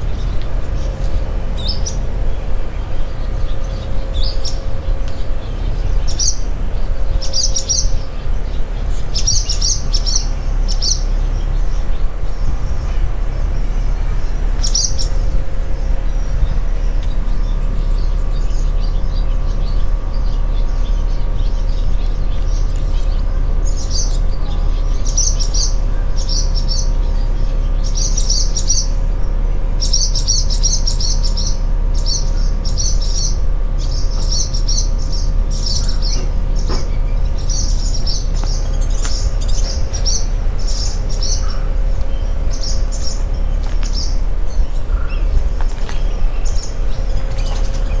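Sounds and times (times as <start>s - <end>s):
steady low rumble: 0.0s - 48.0s
swallows alarm chirping: 0.0s - 48.0s.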